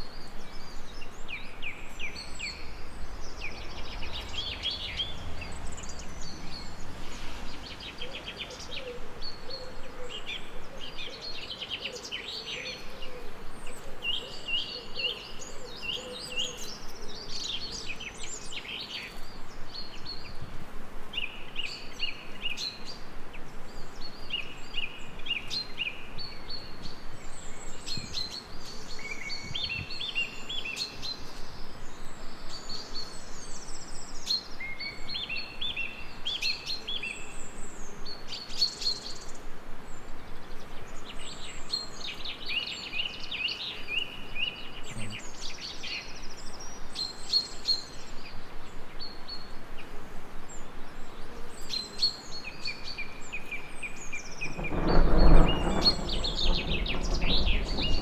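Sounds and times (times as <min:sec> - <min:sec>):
light rain hiss: 0:00.0 - 0:58.0
songbirds chirping: 0:00.0 - 0:58.0.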